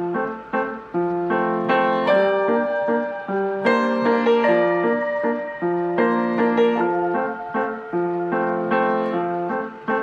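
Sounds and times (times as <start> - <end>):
piano notes and chords: 0.0 - 10.0.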